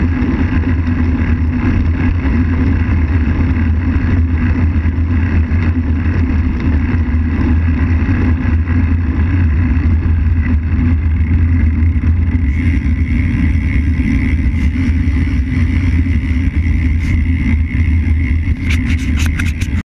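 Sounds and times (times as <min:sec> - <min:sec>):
bike tyres rolling on asphalt: 0:00.0 - 0:19.8
wind buffeting microphone: 0:00.0 - 0:19.8.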